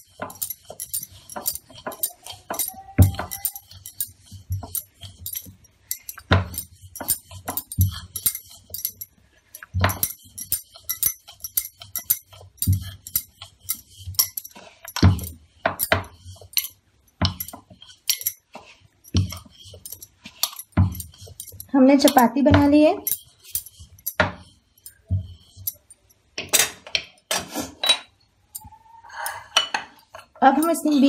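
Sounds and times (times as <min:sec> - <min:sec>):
light clicks and clinks: 0:00.0 - 0:26.4.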